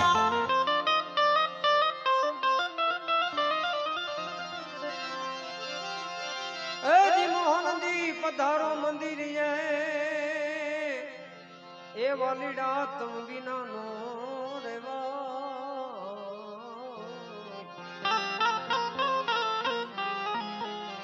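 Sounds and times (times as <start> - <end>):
devotional folk melody: 0.0 - 21.0.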